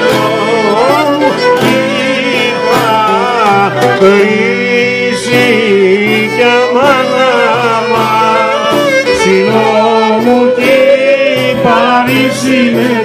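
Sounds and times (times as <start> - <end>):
hammered dulcimer: 0.0 - 13.0
plucked lute: 0.0 - 13.0
violin melody: 0.0 - 13.0.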